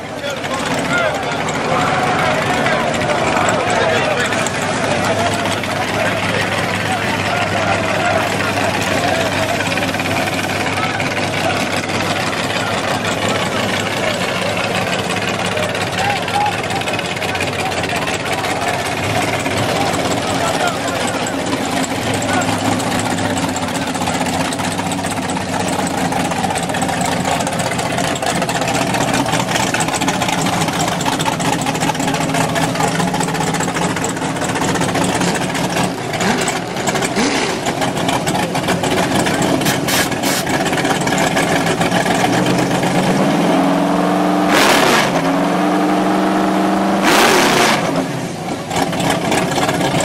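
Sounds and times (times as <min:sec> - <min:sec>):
race car engines idling and revving: 0:00.0 - 0:50.0
very loud engine blasts: 0:00.0 - 0:50.0.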